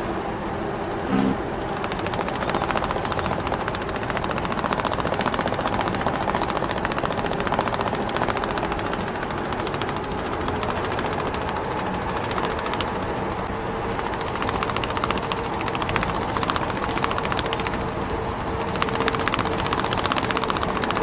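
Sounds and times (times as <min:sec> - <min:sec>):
rapid clicking rattle: 0:01.6 - 0:21.0.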